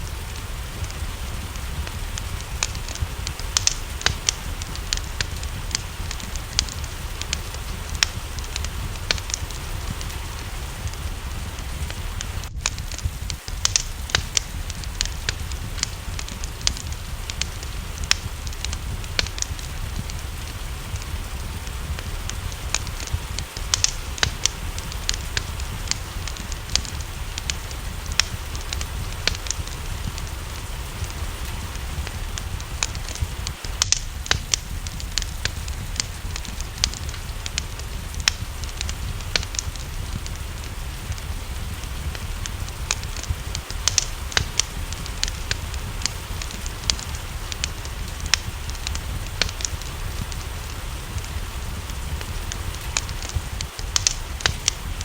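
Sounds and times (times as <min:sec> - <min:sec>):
low rumble: 0:00.0 - 0:55.0
rain hissing: 0:00.0 - 0:55.0
wood fire crackling and popping: 0:00.0 - 0:55.0.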